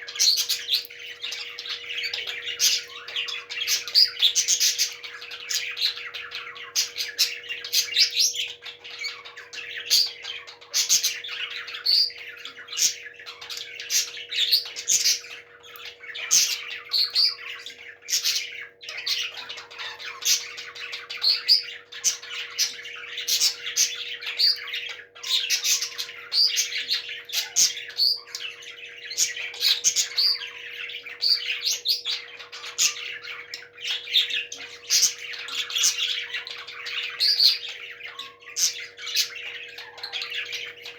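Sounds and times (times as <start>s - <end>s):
parrots chirping and squawking: 0.0s - 40.9s.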